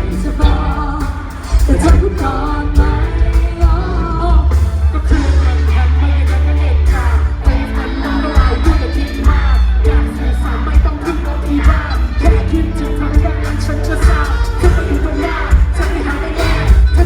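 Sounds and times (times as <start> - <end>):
live pop song with singing: 0.0 - 17.0.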